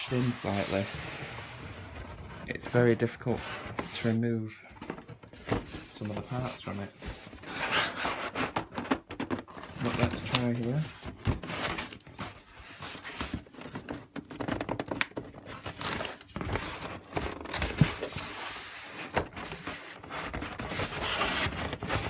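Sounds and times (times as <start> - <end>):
cardboard and packaging rustling: 0.0 - 22.0.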